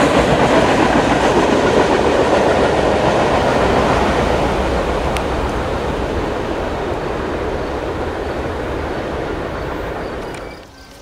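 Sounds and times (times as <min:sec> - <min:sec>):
freight train running: 0:00.0 - 0:11.0.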